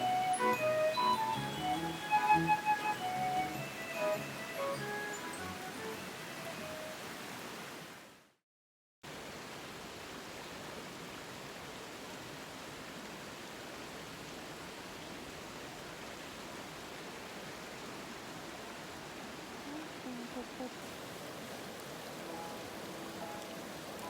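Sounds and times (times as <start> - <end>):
forest stream rushing: 0.0 - 8.4, 9.0 - 24.0.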